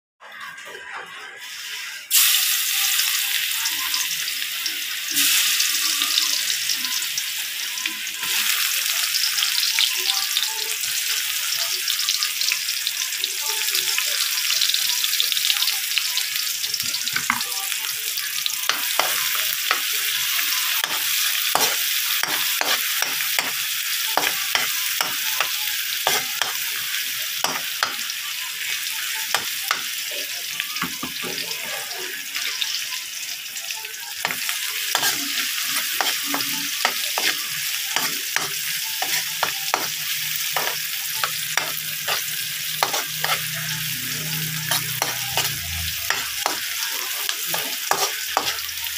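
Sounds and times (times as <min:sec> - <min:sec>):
garlic and onion sizzling in oil: 0:00.3 - 0:48.9.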